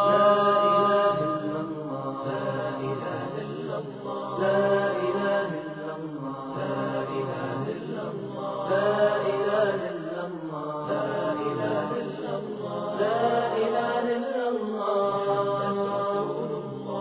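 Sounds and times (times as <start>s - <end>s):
voices chanting together: 0.0s - 17.0s.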